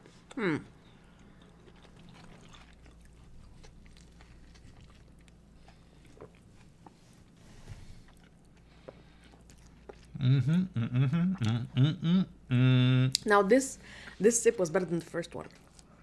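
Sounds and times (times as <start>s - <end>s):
people chewing: 0.0s - 13.2s.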